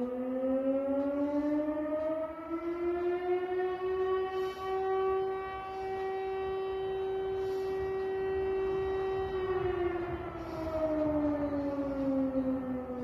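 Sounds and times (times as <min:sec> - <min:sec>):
air-raid siren: 0:00.0 - 0:13.0.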